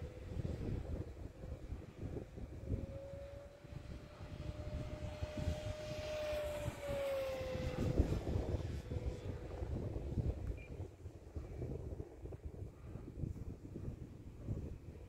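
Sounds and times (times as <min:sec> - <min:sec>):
model plane propeller whine: 0:00.0 - 0:15.0
wind buffeting microphone: 0:00.0 - 0:15.0.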